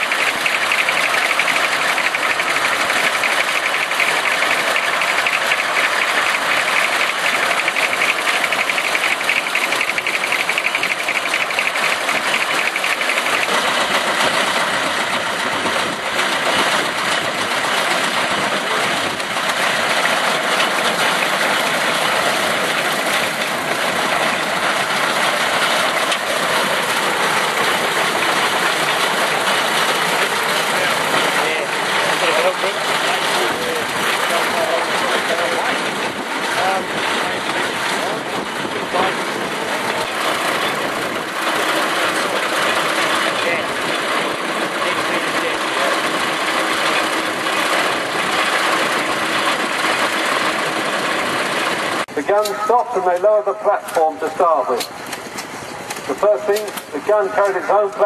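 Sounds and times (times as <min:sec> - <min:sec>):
chaff cutter mechanical clatter: 0:00.0 - 0:54.1, 0:54.7 - 0:58.0.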